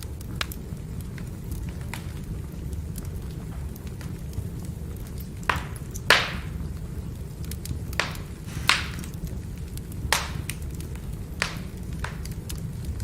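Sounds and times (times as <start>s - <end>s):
fire low rumble: 0.0s - 13.0s
firewood popping and cracking: 0.0s - 13.0s.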